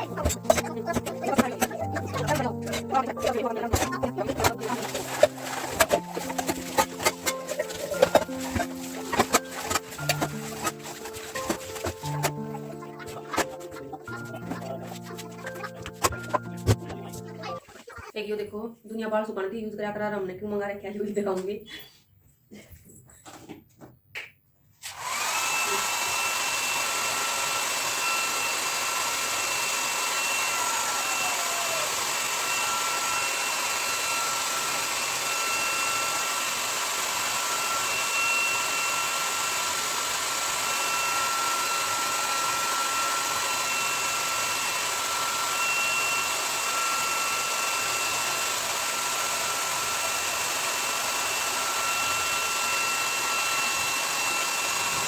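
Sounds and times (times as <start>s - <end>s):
hair dryer running: 0.0s - 17.6s, 24.8s - 55.0s.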